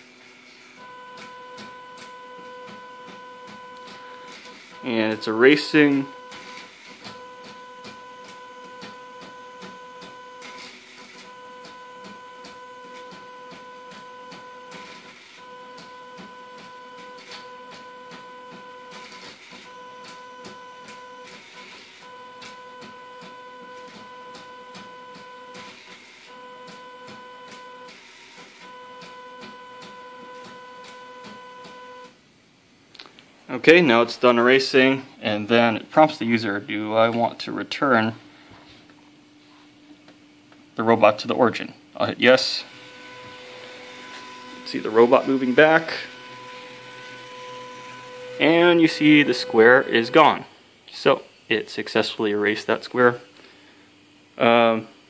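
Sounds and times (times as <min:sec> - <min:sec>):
gantry motors whining: 0:00.0 - 0:32.2, 0:37.8 - 0:55.0.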